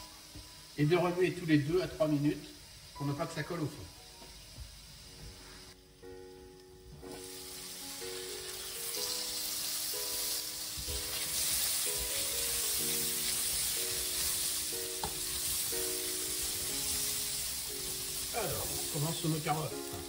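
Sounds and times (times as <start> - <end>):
background music: 0.0 - 20.0
vegetables sizzling in oil: 0.0 - 20.0.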